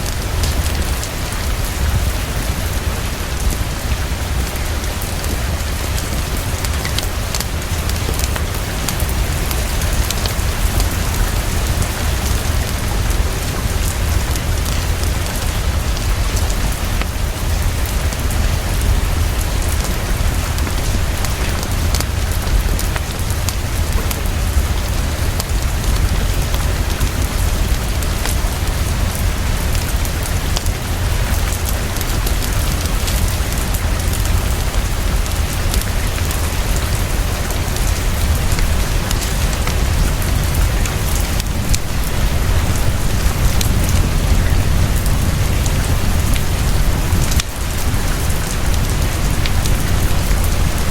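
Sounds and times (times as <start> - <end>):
heavy rainfall: 0.0 - 50.9
sharp ticks of raindrops: 0.0 - 50.9.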